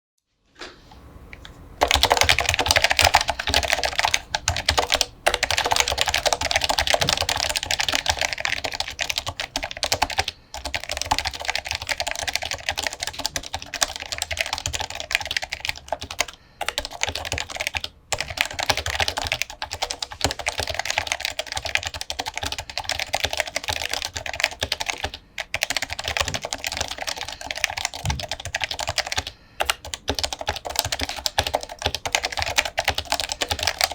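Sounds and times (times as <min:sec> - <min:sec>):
fast typing on keyboard: 0:01.8 - 0:33.9.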